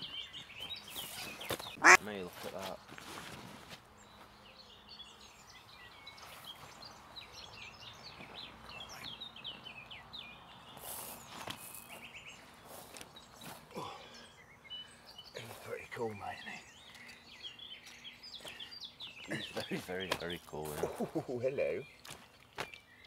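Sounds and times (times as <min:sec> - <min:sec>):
songbirds twittering: 0:00.0 - 0:23.0.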